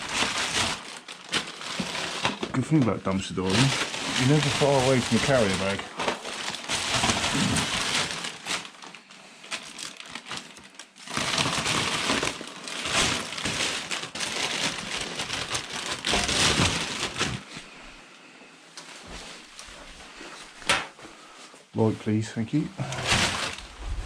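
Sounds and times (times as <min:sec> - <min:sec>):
plastic bags rustling: 0:00.0 - 0:18.0, 0:22.3 - 0:24.0.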